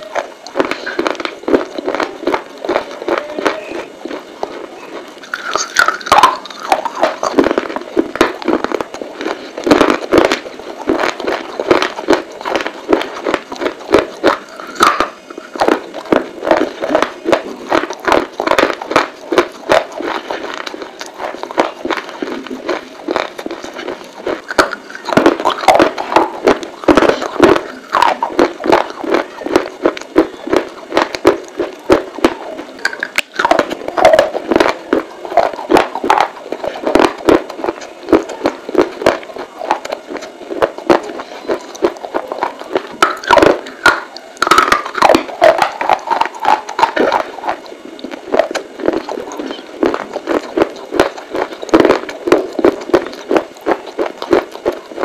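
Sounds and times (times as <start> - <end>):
chewing crunchy clay: 0.0 - 55.0.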